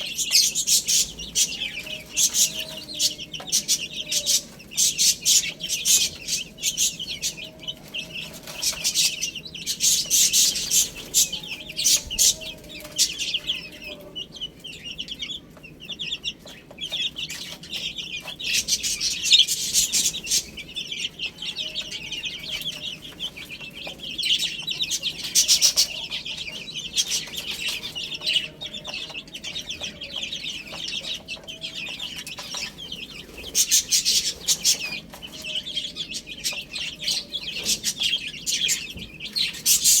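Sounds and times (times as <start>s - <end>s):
baby chicks peeping: 0.0s - 40.0s.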